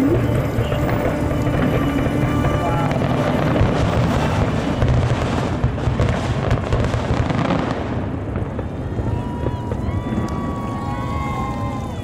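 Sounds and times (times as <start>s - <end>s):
continuous low rumble: 0.0s - 12.0s
fireworks booms and crackles: 0.0s - 12.0s.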